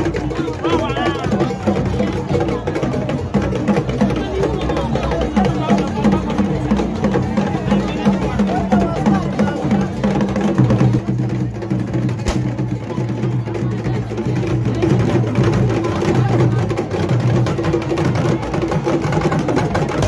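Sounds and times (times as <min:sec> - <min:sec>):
drum and percussion music: 0:00.0 - 0:20.0.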